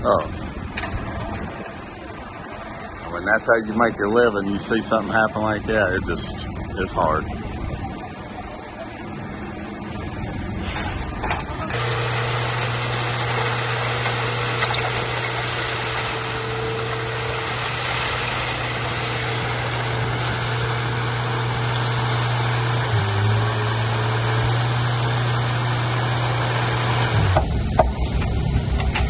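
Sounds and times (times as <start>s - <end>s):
heavy equipment engine running: 0.0s - 29.0s.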